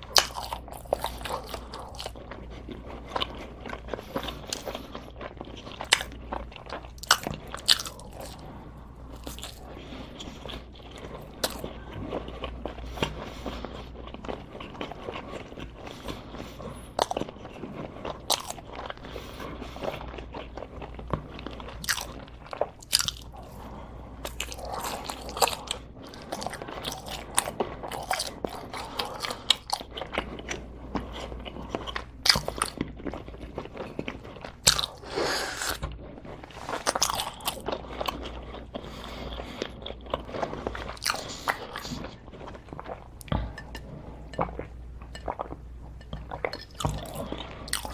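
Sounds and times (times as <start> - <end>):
chewing crunchy food: 0.0 - 47.9.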